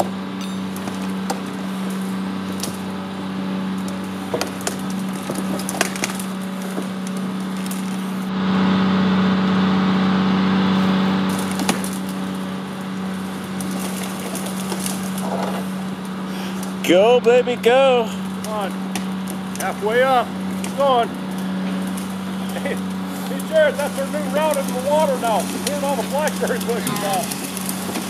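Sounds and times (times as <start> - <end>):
branches cracking and snapping: 0.0 - 8.3, 10.8 - 28.0
steady mechanical hum: 0.0 - 28.0.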